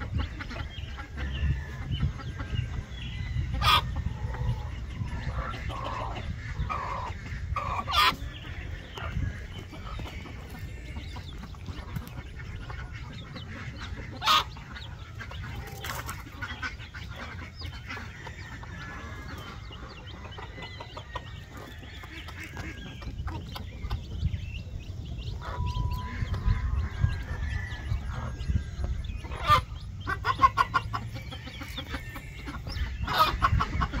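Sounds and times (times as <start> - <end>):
chicks peeping: 0.0 - 34.0
hen clucking softly: 0.0 - 34.0.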